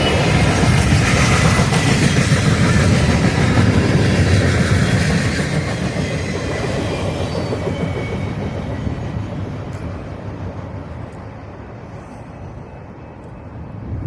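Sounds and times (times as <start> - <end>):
train wheels rumbling and rattling: 0.0 - 11.9.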